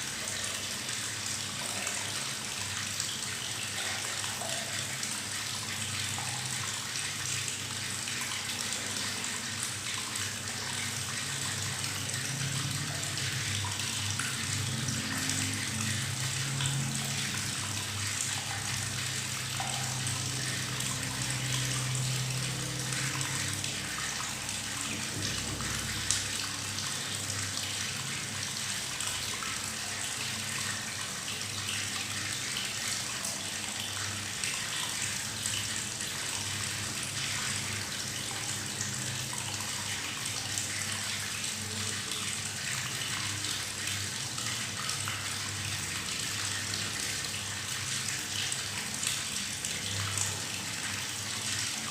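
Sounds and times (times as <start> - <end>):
tap water running into bathtub: 0.0 - 51.9.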